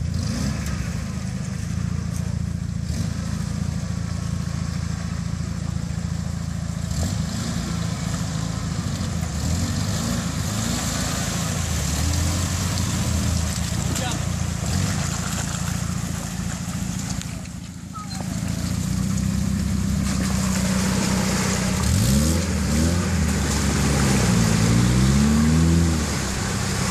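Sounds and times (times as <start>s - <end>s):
truck engine working under load: 0.0s - 26.9s.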